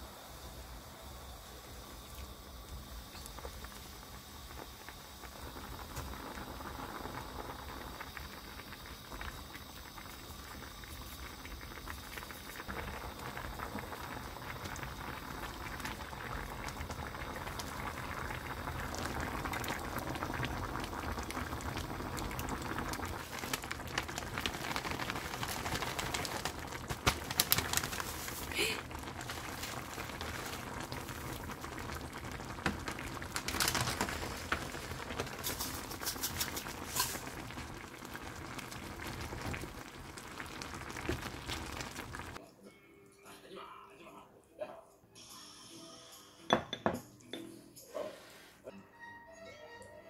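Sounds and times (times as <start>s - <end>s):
soup boiling in a pot: 0.0s - 42.4s.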